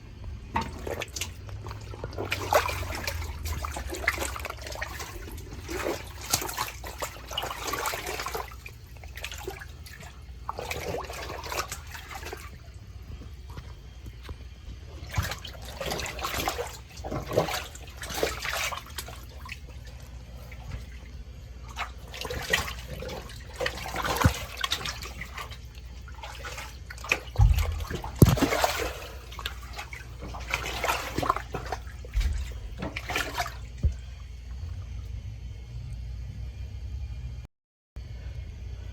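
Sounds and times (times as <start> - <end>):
water running and splashing: 0.3 - 34.3.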